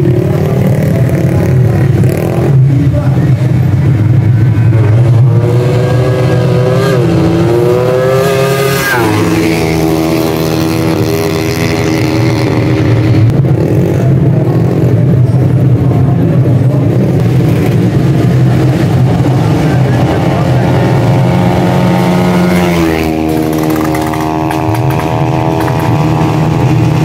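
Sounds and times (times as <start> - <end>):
low engine drone: 0.0 - 27.0
motorcycle engines revving: 0.0 - 27.0.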